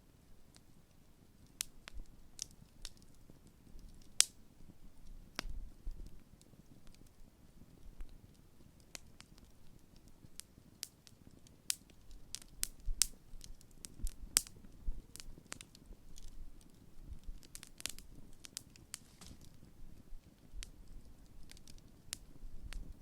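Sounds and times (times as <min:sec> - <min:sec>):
campfire crackling and popping: 0:00.4 - 0:23.0
low rumble of flames: 0:01.2 - 0:23.0.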